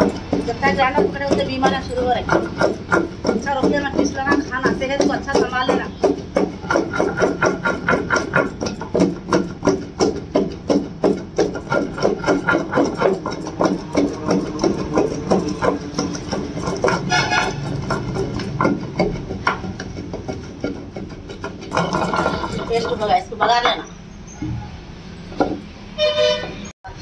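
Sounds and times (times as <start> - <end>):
pestle pounding in stone mortar: 0.0 - 24.6, 25.2 - 25.8.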